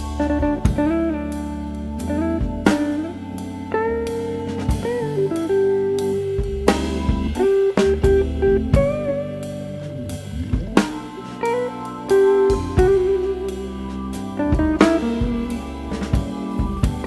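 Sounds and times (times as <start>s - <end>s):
bass line: 0.0s - 17.0s
drum kit: 0.0s - 17.0s
lead guitar bending notes: 0.0s - 17.0s.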